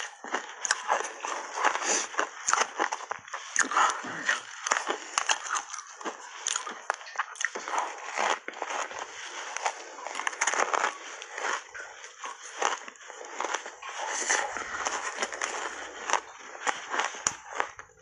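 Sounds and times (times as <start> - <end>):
ice crunching while chewed: 0.0 - 18.0.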